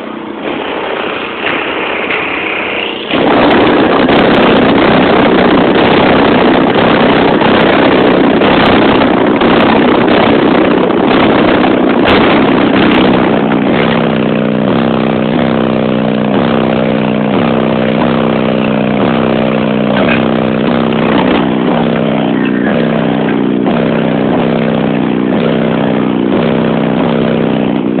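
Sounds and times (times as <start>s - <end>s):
distorted loud bass rumble: 0.0s - 28.0s
stepped bass notes: 0.0s - 28.0s.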